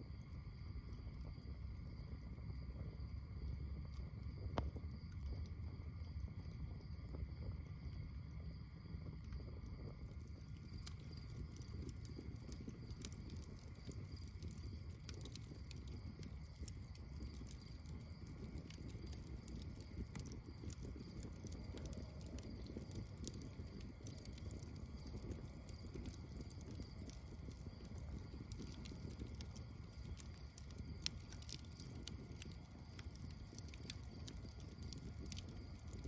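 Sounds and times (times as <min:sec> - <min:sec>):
fire low rumble: 0:00.0 - 0:36.0
wood crackling and popping: 0:03.8 - 0:08.1, 0:09.0 - 0:36.0.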